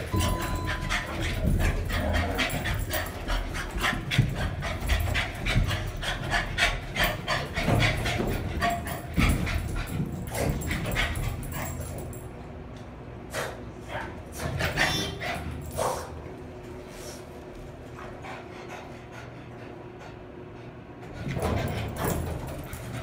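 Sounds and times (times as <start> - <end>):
dog panting: 0.0 - 12.2, 13.3 - 16.2, 17.0 - 23.0.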